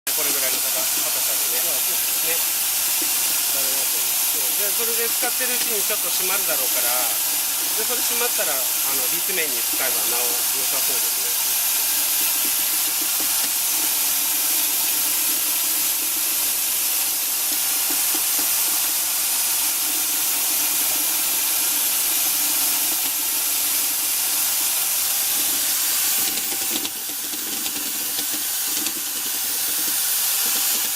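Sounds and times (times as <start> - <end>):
steady loud hiss: 0.1 - 30.9.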